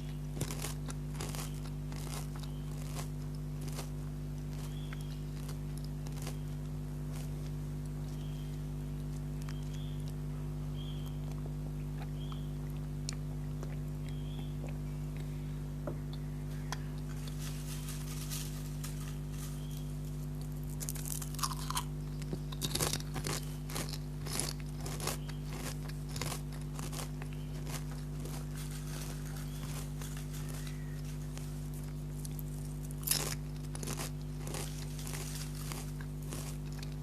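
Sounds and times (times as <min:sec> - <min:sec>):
chips crunching: 0:00.0 - 0:14.4, 0:16.7 - 0:37.0
low hum: 0:00.0 - 0:37.0.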